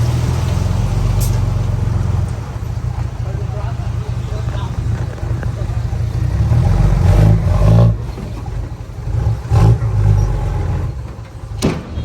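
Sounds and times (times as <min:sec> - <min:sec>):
diesel earthmoving machinery running: 0:00.0 - 0:12.0.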